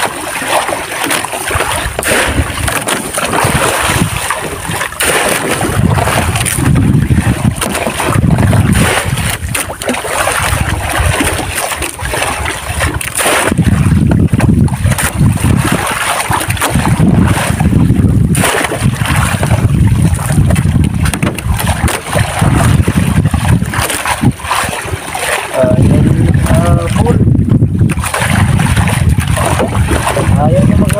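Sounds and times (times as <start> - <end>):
water splashing against boat: 0.0 - 30.9.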